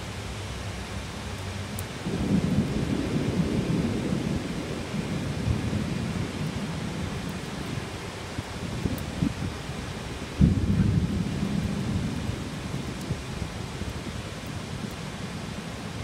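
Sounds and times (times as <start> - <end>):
heavy rain: 0.0 - 16.0
thunder rumbling: 2.0 - 16.0.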